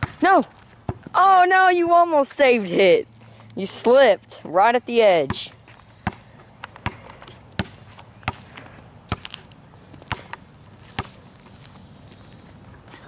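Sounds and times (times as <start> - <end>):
basketball bouncing on pavement: 0.0 - 2.6, 3.7 - 12.3.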